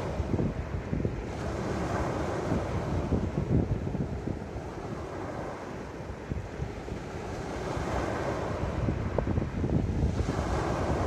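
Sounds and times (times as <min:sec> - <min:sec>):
waves washing over pebble beach: 0:00.0 - 0:11.0
wind buffeting microphone: 0:00.0 - 0:11.0.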